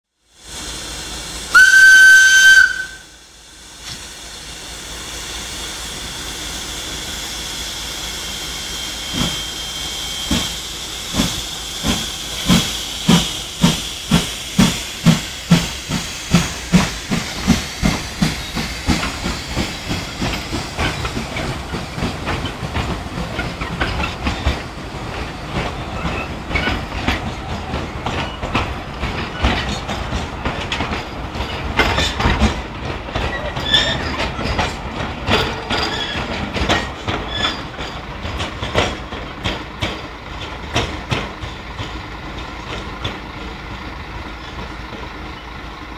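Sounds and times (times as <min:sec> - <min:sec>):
steam hissing: 0:00.2 - 0:45.2
steam locomotive chuffing: 0:00.3 - 0:45.9
train wheels clacking on rails: 0:03.8 - 0:45.9.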